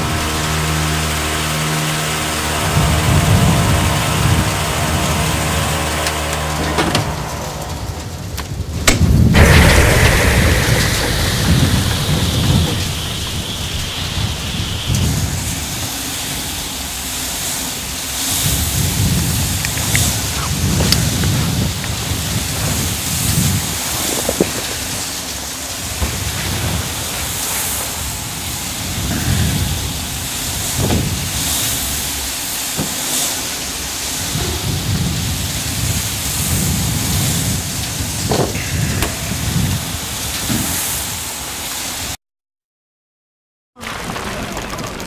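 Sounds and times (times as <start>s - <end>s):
low rumbling surges: 0.0s - 42.2s
wind and sand hissing on metal: 0.0s - 42.2s.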